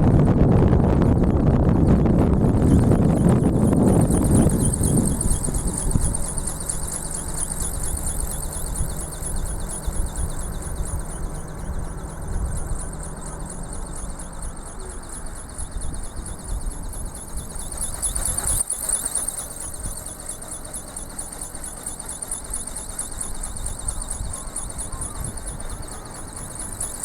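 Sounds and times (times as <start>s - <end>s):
wind buffeting microphone: 0.0s - 20.2s, 23.2s - 27.0s
pulsing high-pitched whine: 0.0s - 27.0s.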